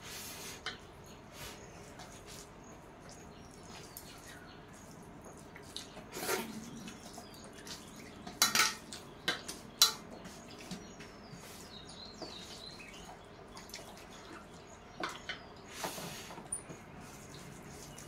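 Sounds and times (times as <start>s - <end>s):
hands mixing food: 0.0s - 18.0s.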